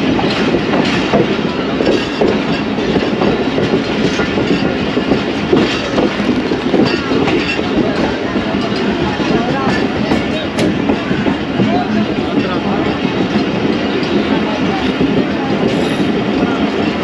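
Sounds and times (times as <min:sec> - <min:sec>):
train rumbling and rattling: 0:00.0 - 0:17.0
wheels knocking on rails: 0:00.0 - 0:17.0.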